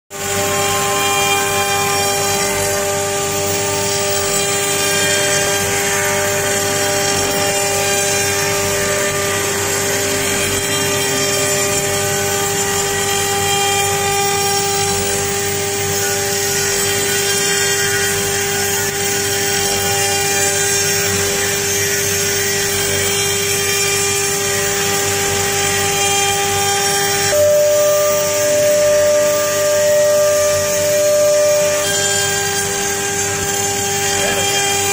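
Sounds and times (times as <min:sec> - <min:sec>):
router spindle whine: 0:00.1 - 0:34.9.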